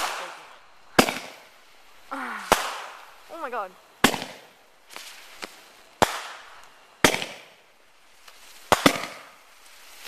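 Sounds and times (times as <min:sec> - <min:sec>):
firework bangs: 0:00.0 - 0:01.8, 0:02.4 - 0:09.6.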